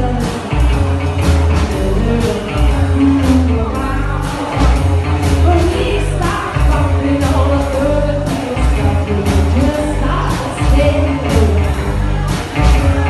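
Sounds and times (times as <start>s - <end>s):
woman singing: 0.0s - 0.8s, 1.5s - 13.0s
rock and roll band playing: 0.0s - 13.0s.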